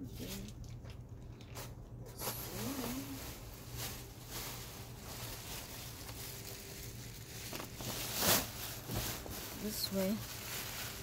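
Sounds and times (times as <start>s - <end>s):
soft rustling handling noise: 0.0s - 11.0s
steady low hum: 0.0s - 11.0s.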